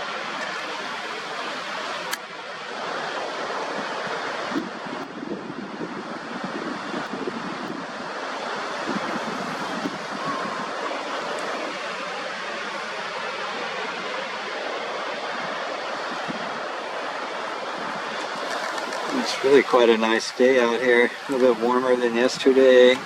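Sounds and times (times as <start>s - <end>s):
ocean surf washing: 0.0s - 23.0s
wind buffeting microphone: 0.0s - 23.0s.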